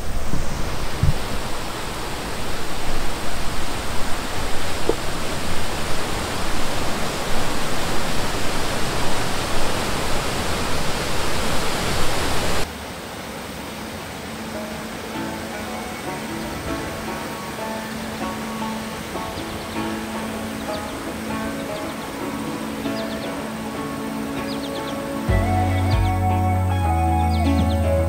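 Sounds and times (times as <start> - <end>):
waterfall and stream rushing: 0.0 - 28.0.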